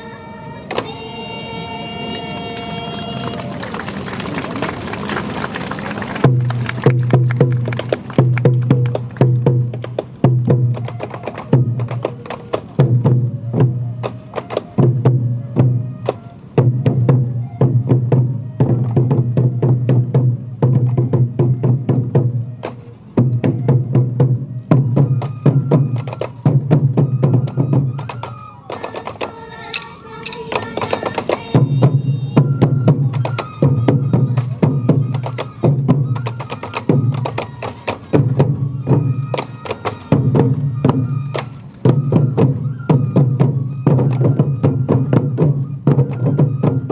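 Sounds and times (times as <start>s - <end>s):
taiko drums beating: 0.0s - 46.9s.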